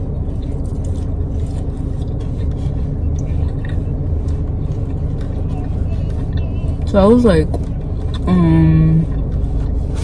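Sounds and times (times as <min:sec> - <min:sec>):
person chewing food: 0:00.0 - 0:08.3, 0:09.0 - 0:10.0
steady low rumble: 0:00.0 - 0:10.0.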